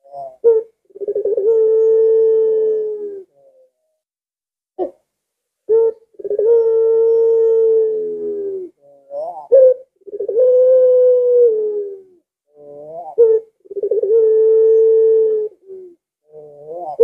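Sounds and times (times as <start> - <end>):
dove cooing: 0.0 - 3.8, 4.8 - 5.0, 5.7 - 17.0.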